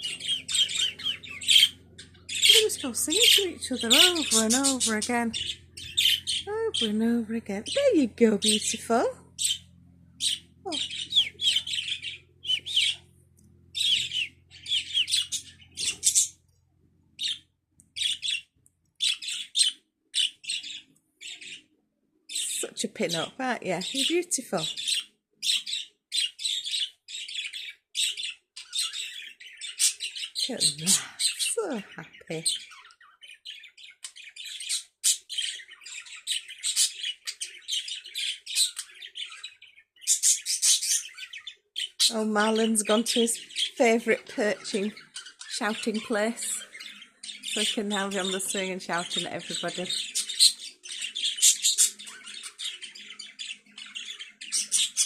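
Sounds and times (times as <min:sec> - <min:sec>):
budgerigars chattering and warbling: 0:00.0 - 0:13.1, 0:13.7 - 0:16.4, 0:17.2 - 0:21.7, 0:22.3 - 0:55.0.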